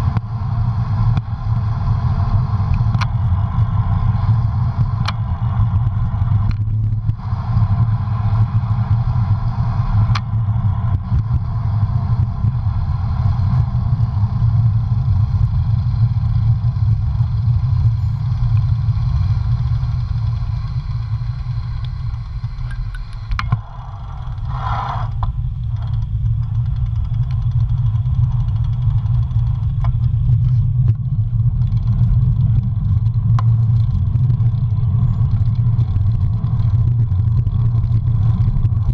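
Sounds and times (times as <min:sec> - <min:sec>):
bicycle road noise rumble: 0:00.0 - 0:38.9
wind rushing over microphone: 0:00.0 - 0:38.9.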